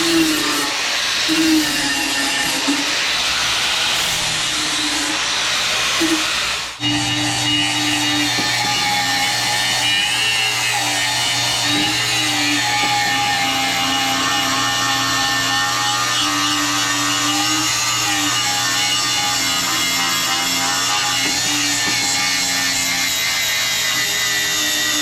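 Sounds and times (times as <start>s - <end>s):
power sander grinding metal: 0.0s - 25.0s.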